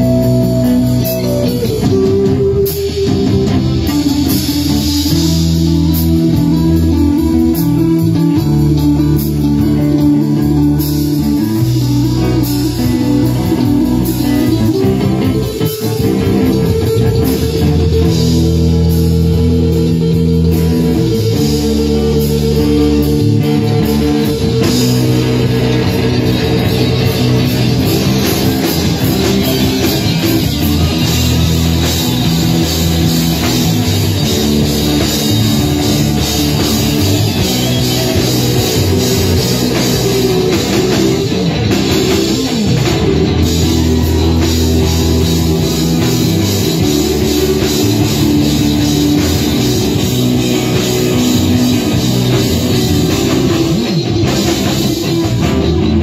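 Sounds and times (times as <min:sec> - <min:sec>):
bass: 0:00.0 - 0:56.0
drum kit: 0:00.0 - 0:56.0
electric guitars: 0:00.0 - 0:56.0.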